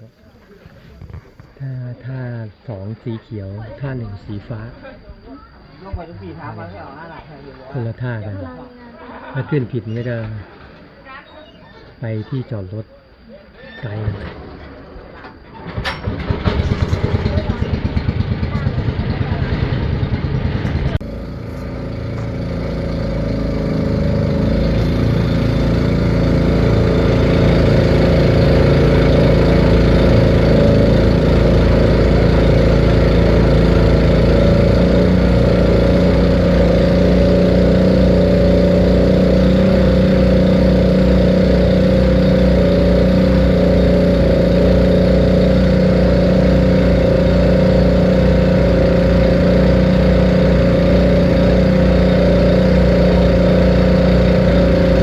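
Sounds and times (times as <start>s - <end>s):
boat engine drone: 0.0s - 55.0s.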